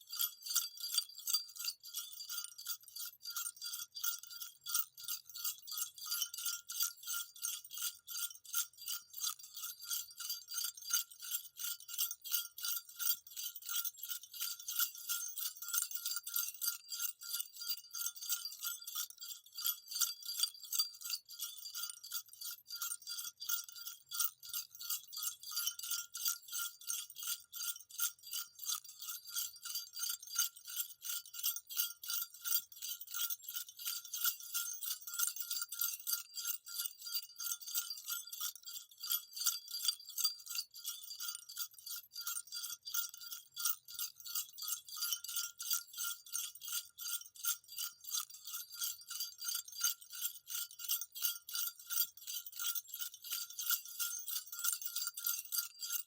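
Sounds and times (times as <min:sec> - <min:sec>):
jingle bells shaken: 0:00.0 - 0:56.0.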